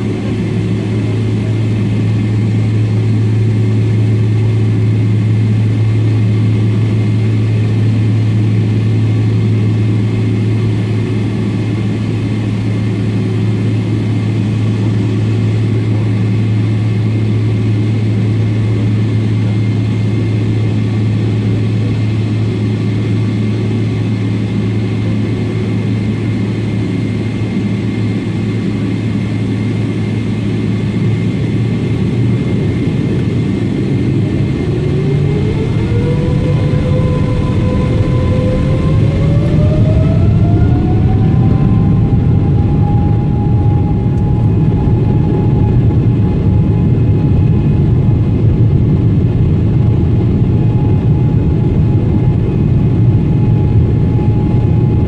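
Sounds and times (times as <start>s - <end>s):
jet engines droning from cabin: 0.0s - 55.0s.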